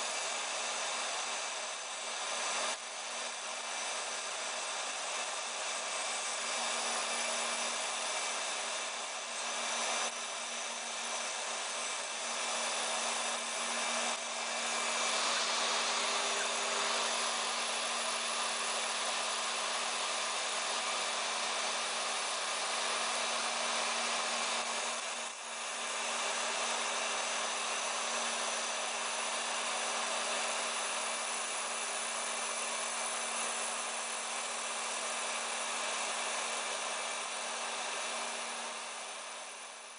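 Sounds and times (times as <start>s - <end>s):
router spindle whirring: 0.0s - 39.9s.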